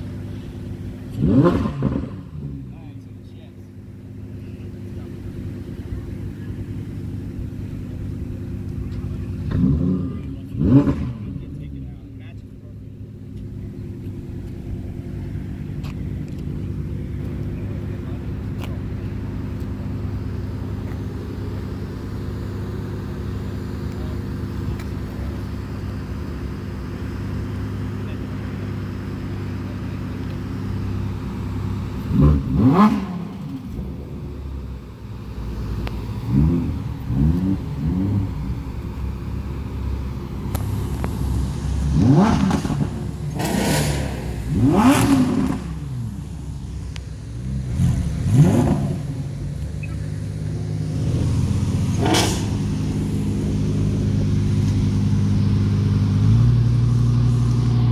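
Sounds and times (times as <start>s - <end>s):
engine revving: 0.0s - 3.0s, 7.2s - 12.3s, 13.0s - 57.9s
sports car engine idling: 0.0s - 57.9s.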